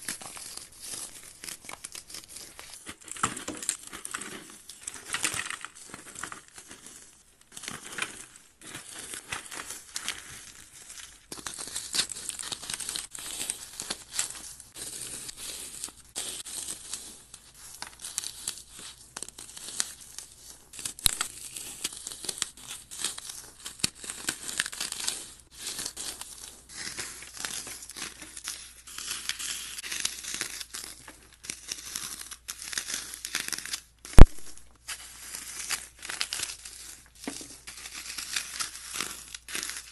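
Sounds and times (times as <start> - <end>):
floral foam crunching and crumbling: 0.0 - 39.9.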